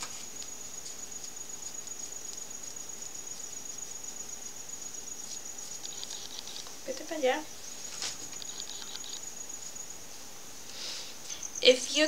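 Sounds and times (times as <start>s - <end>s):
cricket trilling: 0.0s - 12.0s
faint background hiss: 0.0s - 12.0s.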